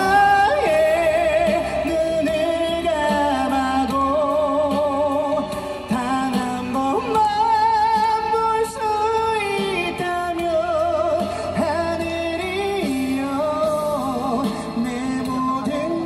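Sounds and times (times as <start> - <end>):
backing music: 0.0 - 16.0.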